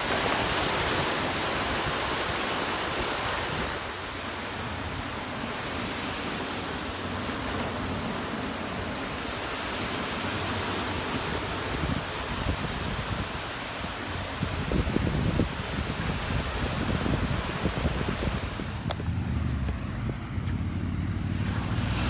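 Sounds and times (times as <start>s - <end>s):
ocean surf washing onto beach: 0.0s - 22.0s.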